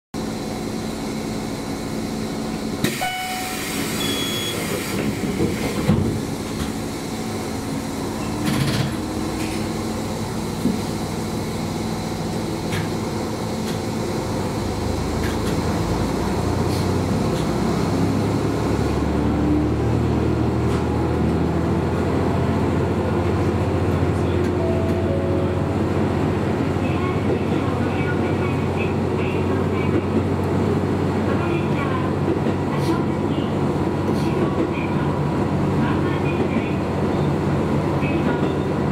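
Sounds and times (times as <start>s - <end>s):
diesel railcar engine: 0.2s - 38.9s.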